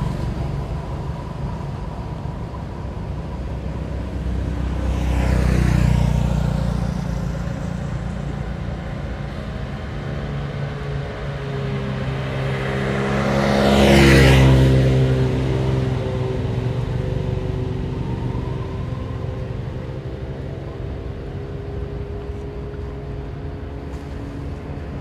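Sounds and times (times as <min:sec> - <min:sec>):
vehicle passing on road: 0:00.0 - 0:25.0.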